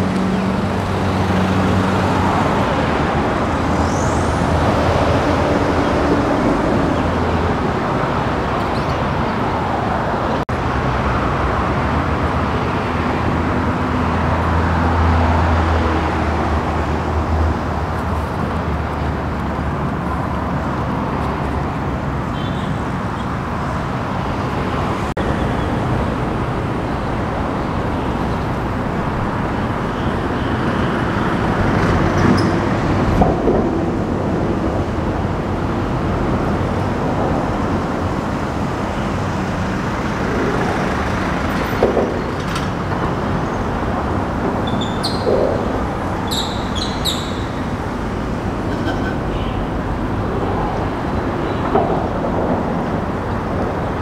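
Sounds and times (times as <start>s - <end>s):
passing road traffic: 0.0s - 54.0s.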